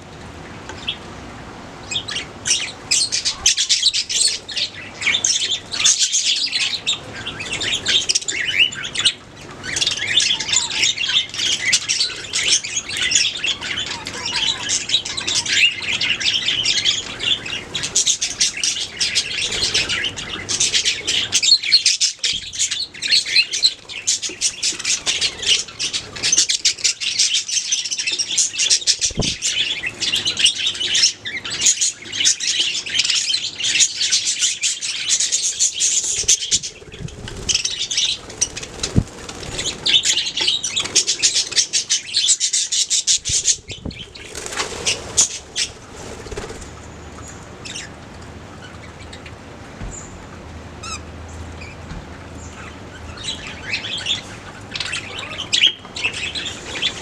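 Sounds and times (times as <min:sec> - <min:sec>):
budgerigars chirping: 0:01.8 - 0:47.9, 0:51.6 - 0:57.0.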